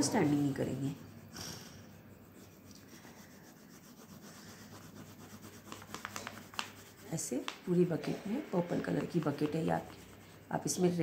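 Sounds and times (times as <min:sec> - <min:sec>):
crayon rubbing on paper: 0:00.0 - 0:11.0.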